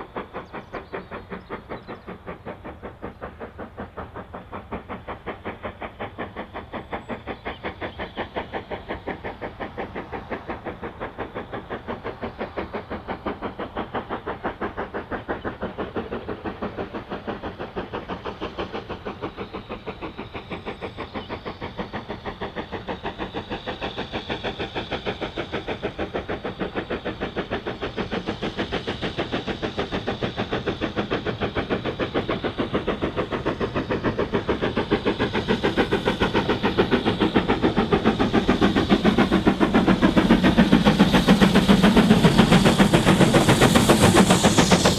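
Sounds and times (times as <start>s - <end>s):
steam locomotive exhaust beats: 0.0s - 44.9s.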